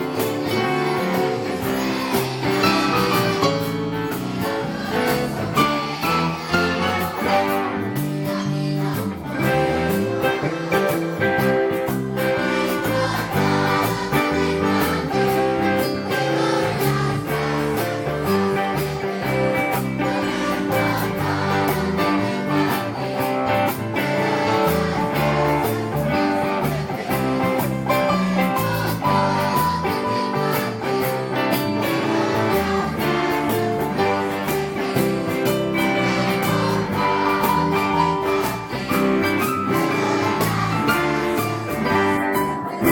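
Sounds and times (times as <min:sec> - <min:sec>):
music with strummed guitars: 0:00.0 - 0:42.9.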